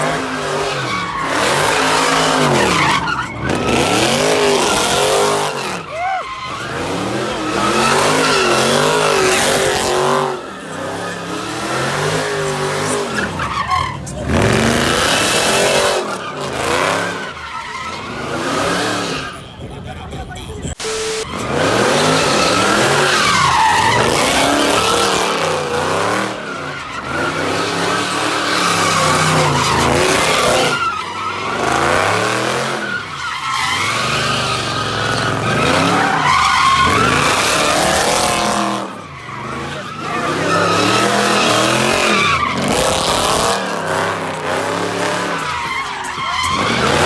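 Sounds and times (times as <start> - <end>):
car engine revving: 0.0 - 20.1, 20.7 - 47.0
tires skidding and squealing: 0.0 - 47.0.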